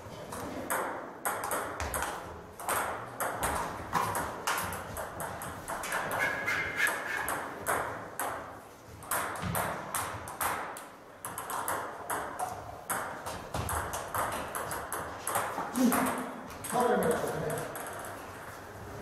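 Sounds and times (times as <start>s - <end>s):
table tennis ball clicking: 0.7s - 16.8s.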